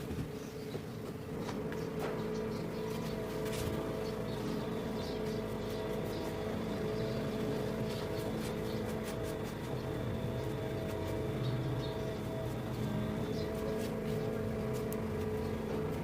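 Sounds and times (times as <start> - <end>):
mechanical hum over low rumble: 0.0 - 16.0.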